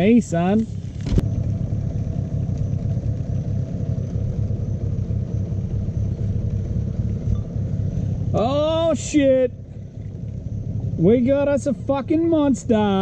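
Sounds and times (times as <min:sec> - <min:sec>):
outboard motor running: 0:00.0 - 0:13.0
wind rumble on microphone: 0:00.7 - 0:11.6.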